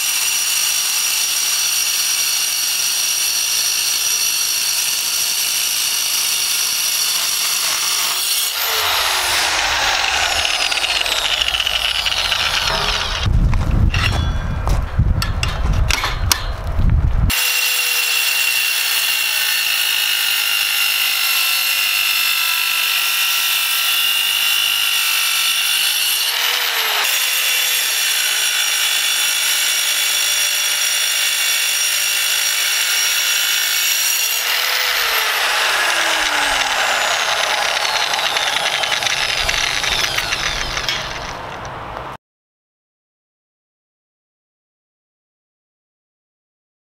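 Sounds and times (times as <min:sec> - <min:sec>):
saw cutting through steel: 0:00.0 - 0:13.3, 0:17.3 - 0:41.7.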